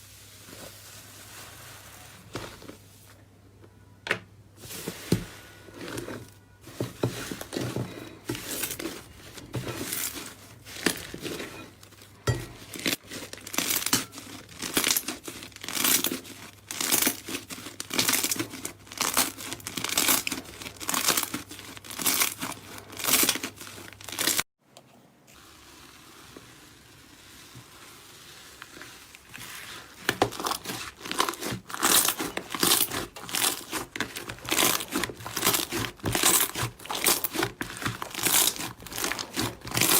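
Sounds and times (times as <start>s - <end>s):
slime crackling by hand: 4.6s - 24.4s, 27.3s - 39.9s.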